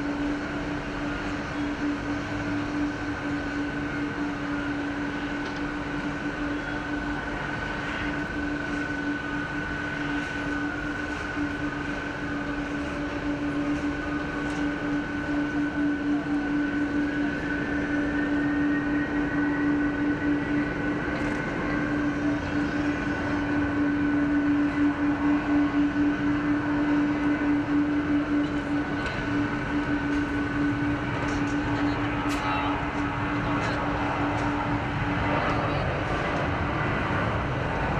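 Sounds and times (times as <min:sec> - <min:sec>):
higher whine rising in pitch: 0:00.0 - 0:37.9
jet engines humming and whining: 0:00.0 - 0:37.9.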